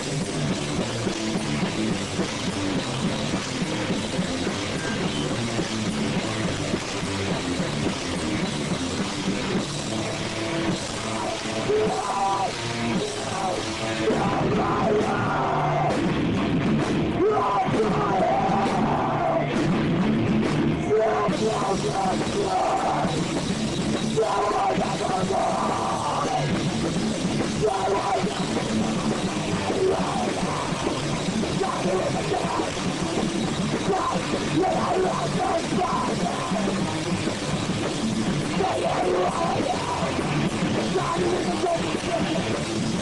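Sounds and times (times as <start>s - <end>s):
electric guitar: 0.0s - 43.0s
live rock band: 0.0s - 43.0s.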